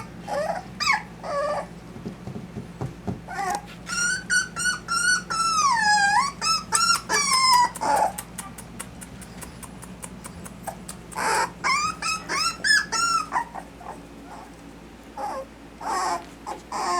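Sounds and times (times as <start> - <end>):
puppies whining and yelping: 0.0 - 1.8, 3.3 - 16.9.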